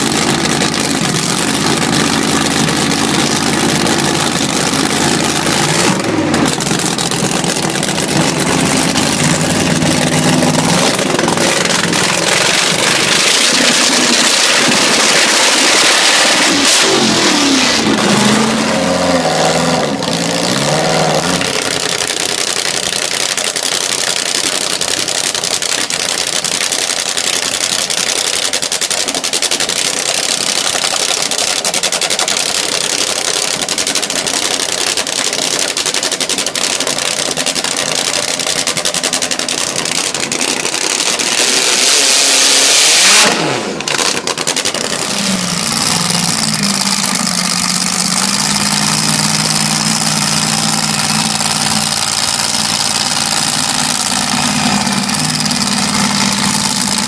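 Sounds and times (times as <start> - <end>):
performance car engine revving: 0.0 - 23.8, 32.3 - 57.0.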